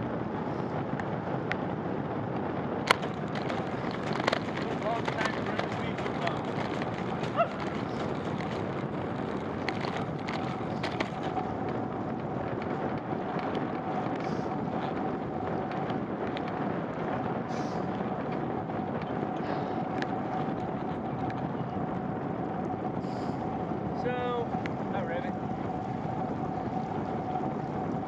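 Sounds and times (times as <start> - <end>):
bicycle rolling on wet road: 0.0 - 28.0
wind noise on microphone: 0.0 - 28.0.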